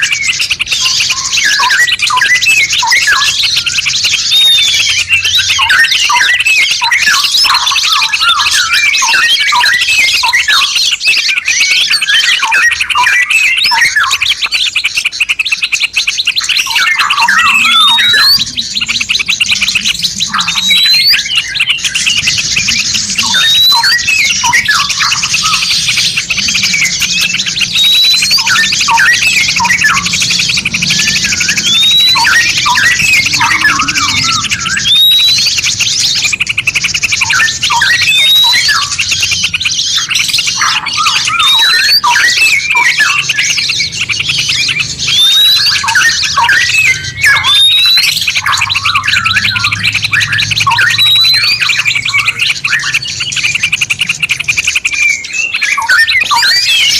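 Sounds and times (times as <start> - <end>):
songbirds chirping and whistling: 0.0 - 56.9.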